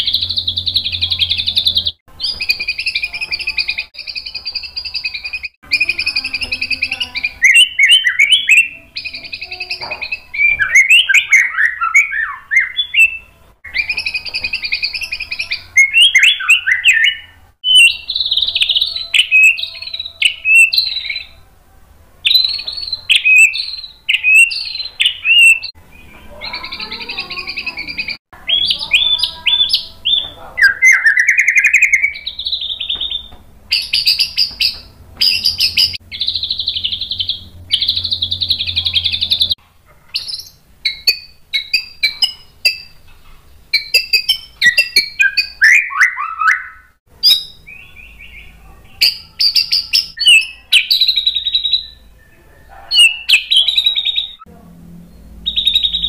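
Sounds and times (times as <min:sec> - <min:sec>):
bird singing varied phrases: 0:00.0 - 0:21.4, 0:22.2 - 0:56.0.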